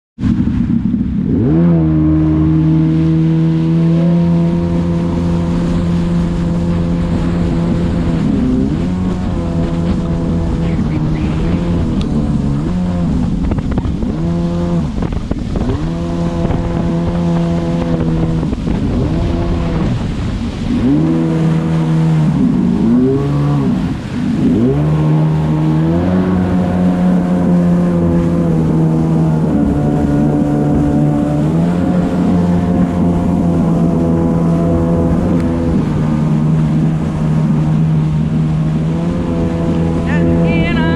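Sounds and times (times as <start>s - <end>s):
jet ski engine running: 0.2s - 40.9s.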